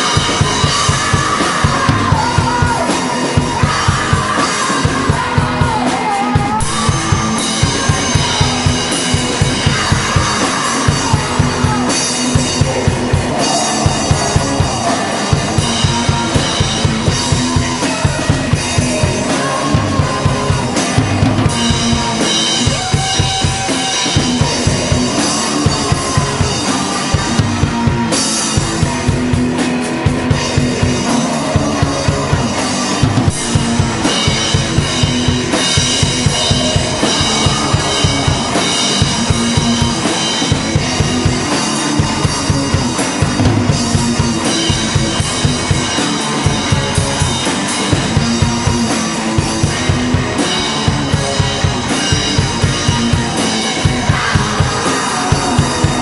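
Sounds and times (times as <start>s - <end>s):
guitar: 0.0s - 56.0s
live rock band playing: 0.0s - 56.0s.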